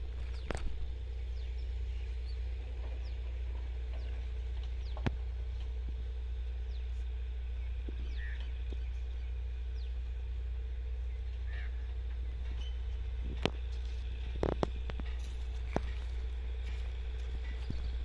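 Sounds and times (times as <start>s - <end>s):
birds calling: 0.0s - 18.0s
steady low rumble: 0.0s - 18.0s.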